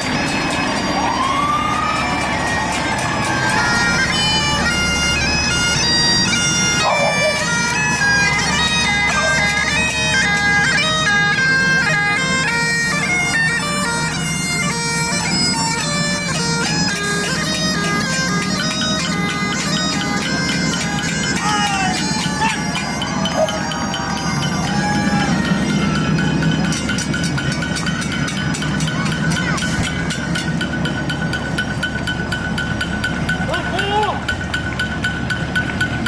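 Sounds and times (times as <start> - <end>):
bagpipes playing a march: 0.0 - 36.0.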